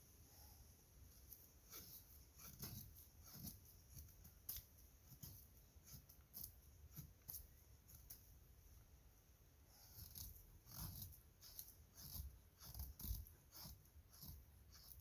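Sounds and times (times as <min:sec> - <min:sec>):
knife scraping stick: 0:01.1 - 0:08.2, 0:09.8 - 0:15.0.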